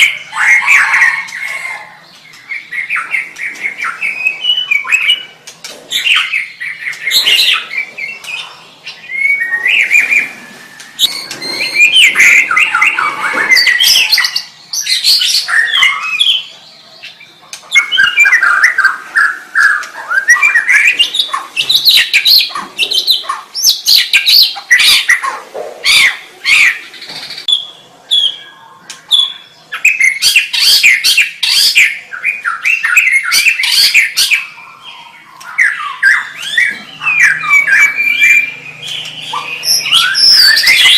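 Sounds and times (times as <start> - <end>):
bird singing whistled song: 0.0 - 5.3, 5.9 - 25.2, 25.9 - 40.9.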